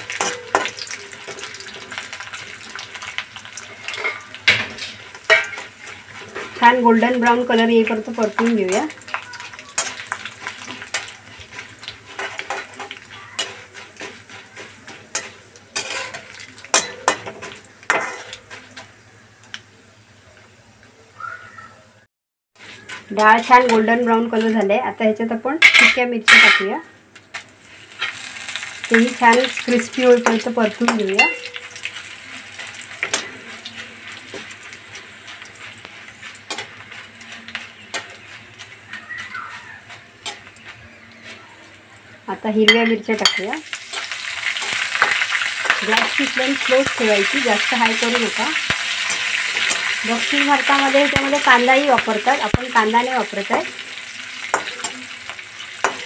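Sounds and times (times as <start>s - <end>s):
metal spoon scraping a pan: 0.0s - 18.9s, 22.6s - 24.6s, 27.9s - 41.5s, 42.7s - 56.0s
frying sizzle: 0.0s - 21.2s, 22.6s - 56.0s.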